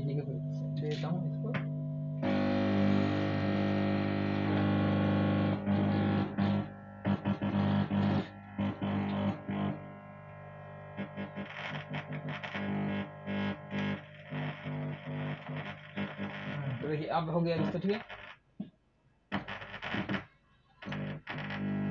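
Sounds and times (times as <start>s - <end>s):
distorted music from speaker: 0.0s - 18.0s, 19.3s - 21.9s
mains hum: 0.0s - 21.9s.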